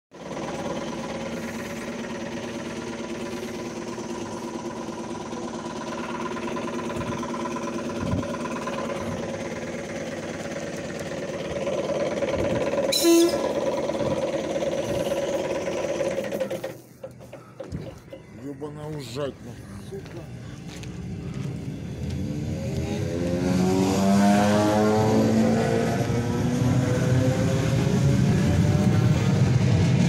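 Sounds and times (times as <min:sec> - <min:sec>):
electric train humming past: 0:00.2 - 0:17.3, 0:19.0 - 0:30.0.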